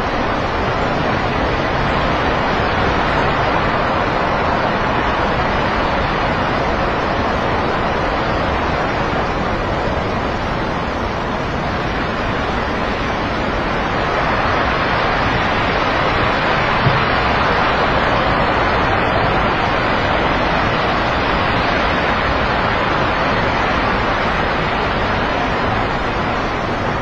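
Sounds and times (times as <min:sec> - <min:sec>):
landslide roar: 0:00.0 - 0:27.0.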